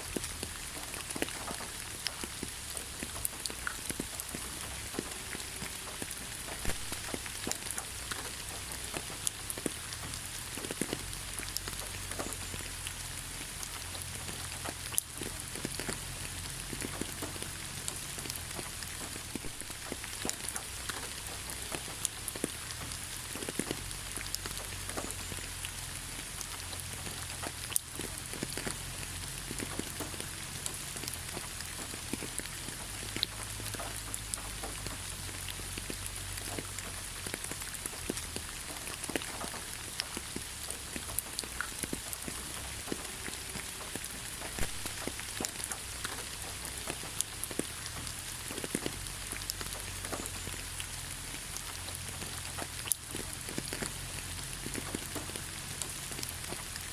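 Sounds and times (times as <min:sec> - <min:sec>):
hiss of rainfall: 0:00.0 - 0:56.9
raindrops ticking on leaves: 0:00.0 - 0:56.9.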